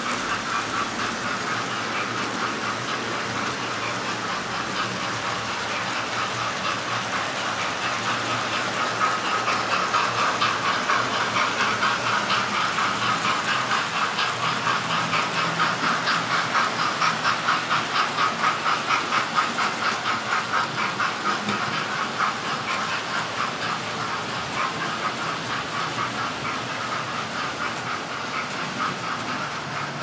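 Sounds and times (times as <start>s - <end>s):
model trains whirring on track: 0.0s - 30.0s.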